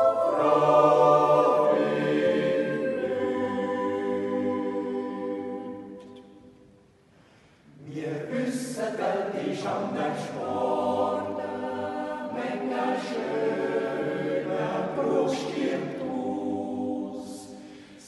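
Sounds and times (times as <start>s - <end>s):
choir yodelling in harmony: 0.0s - 6.4s, 7.9s - 17.6s.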